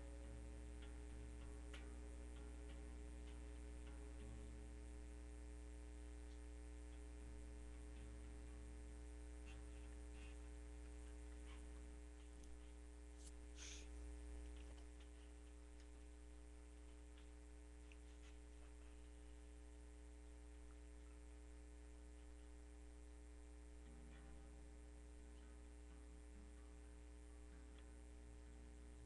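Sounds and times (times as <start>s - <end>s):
faint clicks: 0.0s - 29.0s
low mains hum: 0.0s - 29.0s.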